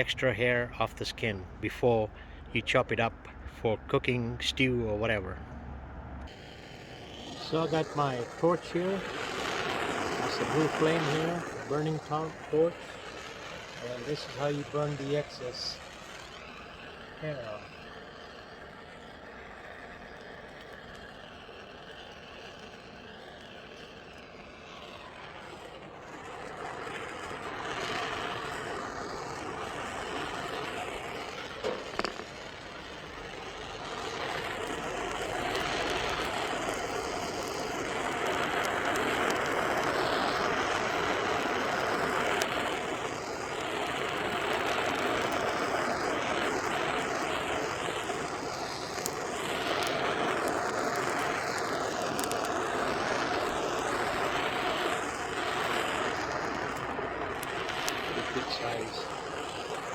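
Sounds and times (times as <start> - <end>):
gas torch hissing: 0.0 - 59.9.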